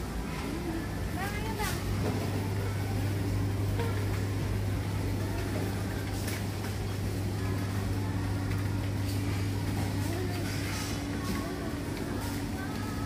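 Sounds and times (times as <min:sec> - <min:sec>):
cooling equipment hum: 0:00.0 - 0:13.0
faint voices: 0:00.0 - 0:13.0.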